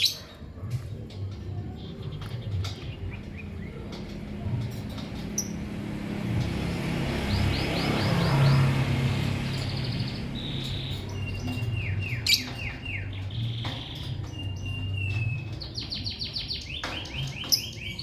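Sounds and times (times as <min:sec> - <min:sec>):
lovebirds chirping: 0:00.0 - 0:05.7, 0:06.5 - 0:18.0.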